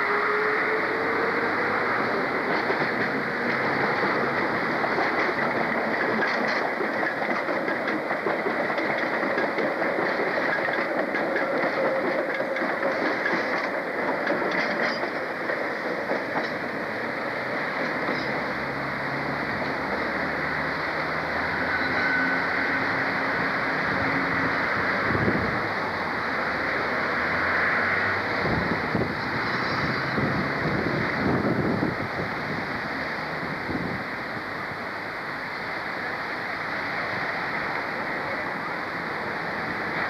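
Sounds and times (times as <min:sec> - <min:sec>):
train running on rails: 0:00.0 - 0:40.0.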